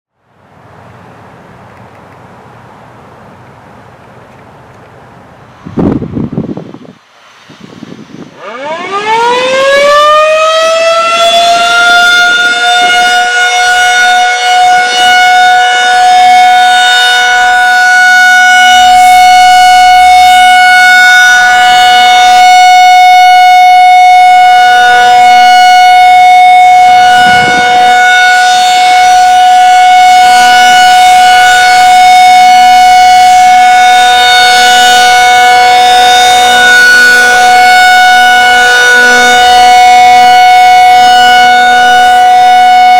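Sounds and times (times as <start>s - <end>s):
siren winding up: 8.4s - 42.9s.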